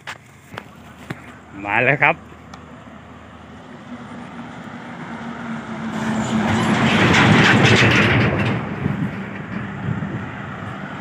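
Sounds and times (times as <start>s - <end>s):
vehicle passing by: 0.8s - 11.0s.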